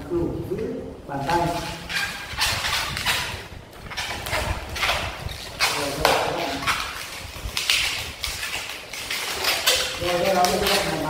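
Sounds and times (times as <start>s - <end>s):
latex balloons rubbing: 1.3s - 11.0s.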